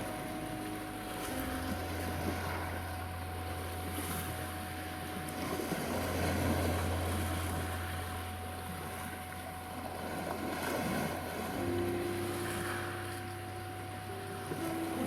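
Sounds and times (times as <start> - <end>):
low even hum: 0.0 - 15.0
sea waves washing on shore: 0.0 - 15.0
steady pure tone: 0.0 - 15.0.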